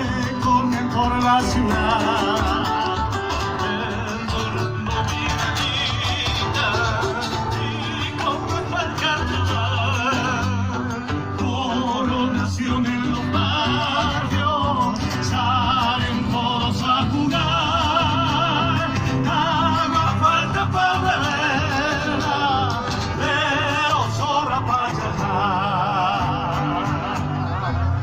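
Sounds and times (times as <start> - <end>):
latin song with vibrato singer: 0.0 - 28.0.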